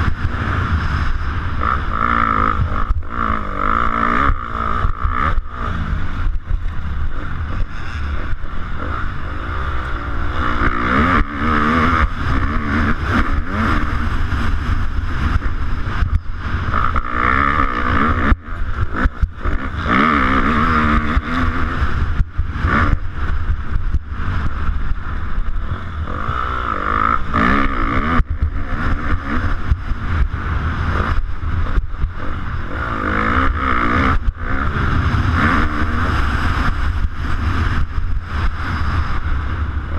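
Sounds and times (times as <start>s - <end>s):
motocross bike engine revving: 0.0s - 39.9s
wind rumble on microphone: 0.0s - 39.9s.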